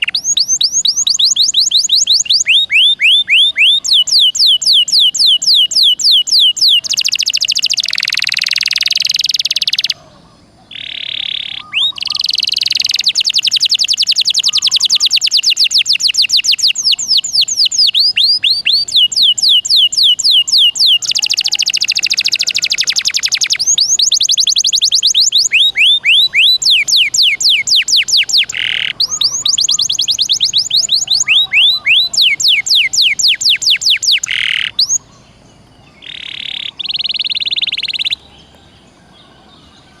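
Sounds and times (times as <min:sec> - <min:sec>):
canary singing fast trills: 0:00.0 - 0:40.0.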